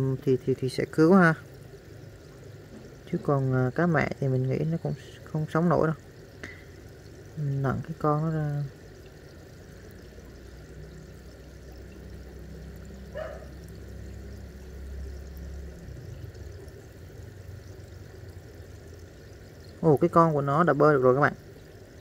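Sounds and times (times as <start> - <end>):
faint running water: 0.0 - 22.0
low hum: 0.0 - 22.0.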